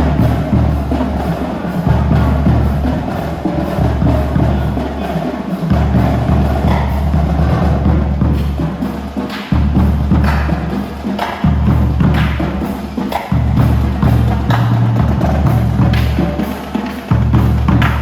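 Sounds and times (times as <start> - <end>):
drumline beat: 0.0 - 18.0
marching band brass: 0.0 - 18.0.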